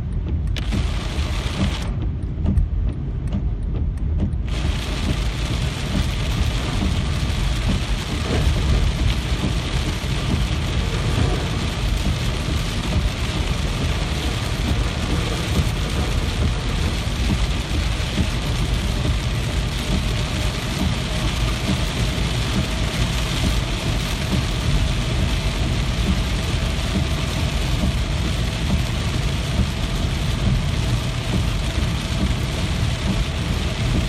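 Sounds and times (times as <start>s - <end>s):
deep low rumble: 0.0s - 34.0s
heavy rain hissing: 0.6s - 1.9s, 4.5s - 34.0s.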